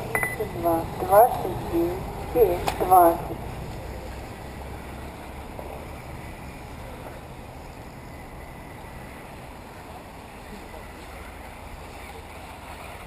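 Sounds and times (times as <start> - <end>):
outdoor background: 0.0 - 13.0.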